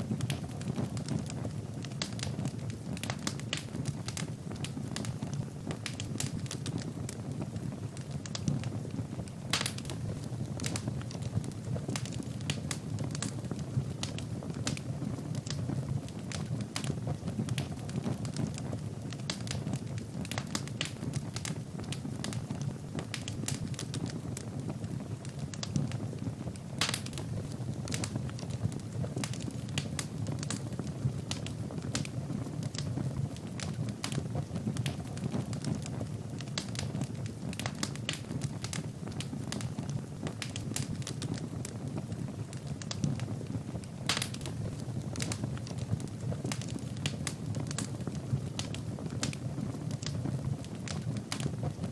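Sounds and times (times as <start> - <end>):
low rumble of flames: 0.0 - 51.9
sharp pops of fire: 0.0 - 51.9
wood fire crackling: 0.0 - 51.9.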